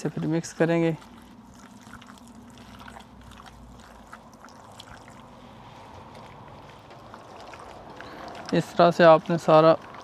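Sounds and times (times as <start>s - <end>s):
low steady hum: 0.0s - 10.0s
wet squelching of chicken: 0.0s - 10.0s.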